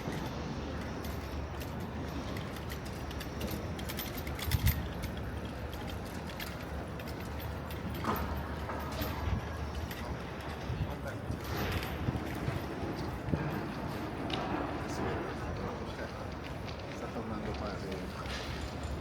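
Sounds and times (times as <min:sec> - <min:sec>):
low city hum: 0:00.0 - 0:19.0.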